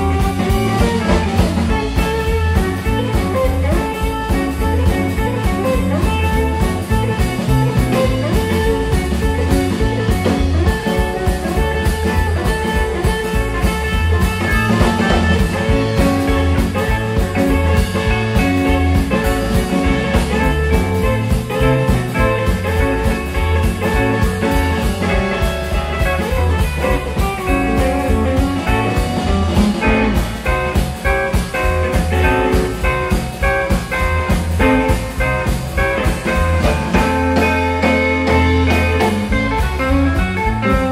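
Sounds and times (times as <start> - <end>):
bass guitar: 0.0 - 40.9
drum kit steady beat: 0.0 - 40.9
electric guitars: 0.0 - 40.9.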